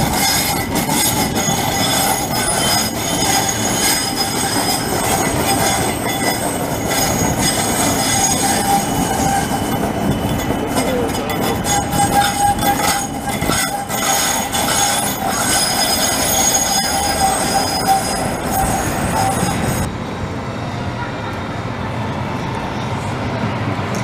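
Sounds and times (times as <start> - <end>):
street rumble: 0.0 - 24.0
tram passing with whine: 0.0 - 24.0.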